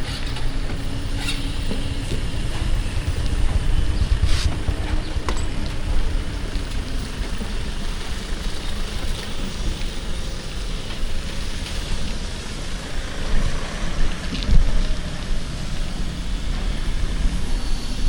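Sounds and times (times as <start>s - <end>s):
traffic: 0.0s - 18.0s
wind and road rumble: 0.0s - 18.0s.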